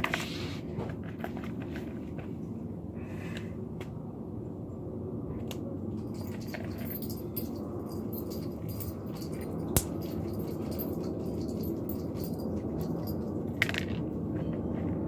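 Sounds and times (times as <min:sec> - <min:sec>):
low background rumble: 0:02.0 - 0:15.0.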